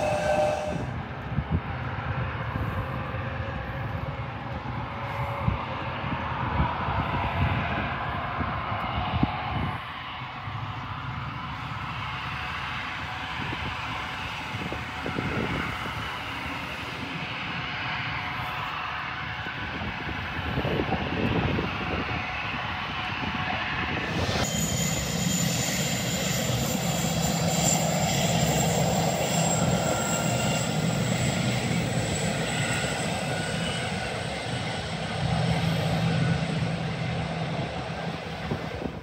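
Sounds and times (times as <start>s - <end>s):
airliner engines running: 0.0s - 39.0s
high-pitched engine whine: 0.0s - 39.0s.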